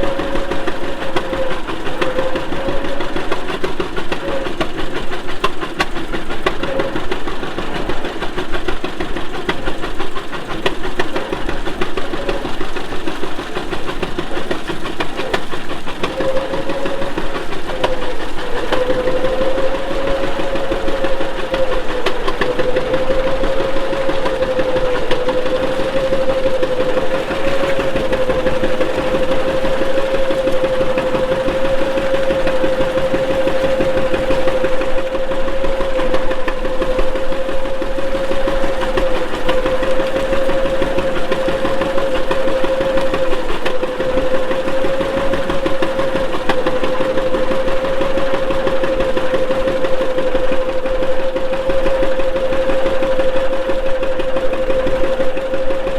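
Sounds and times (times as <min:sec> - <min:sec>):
tractor engine chugging: 0:00.0 - 0:55.9.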